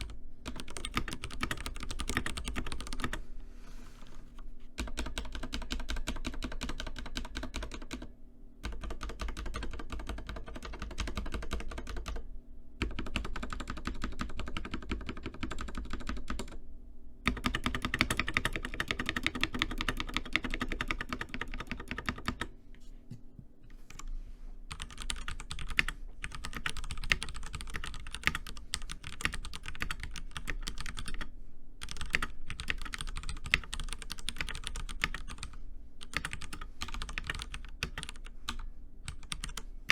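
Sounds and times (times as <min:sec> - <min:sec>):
fast typing on mechanical keyboard: 0:00.0 - 0:03.2, 0:04.8 - 0:12.2, 0:12.8 - 0:16.6, 0:17.3 - 0:22.5, 0:24.7 - 0:39.9.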